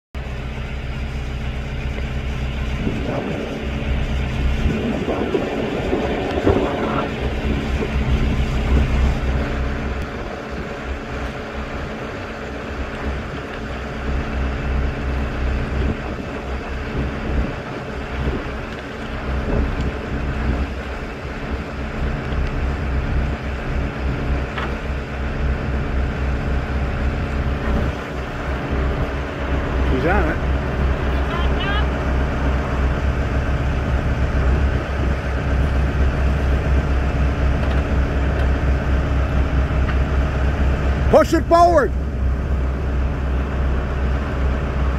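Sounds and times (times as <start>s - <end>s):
engine running at low speed: 0.2s - 44.9s
wind buffeting microphone: 2.0s - 41.1s.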